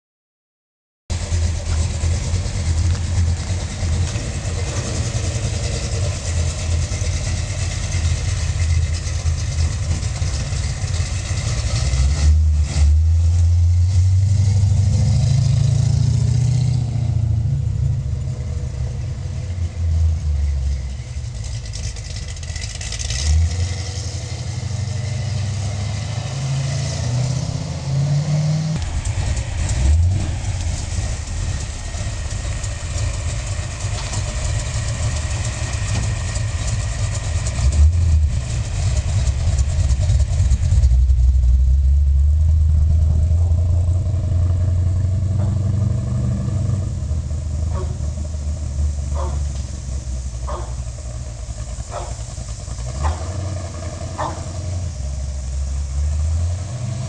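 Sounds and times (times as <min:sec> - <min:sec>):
car engine idling and revving: 0:01.1 - 0:57.0.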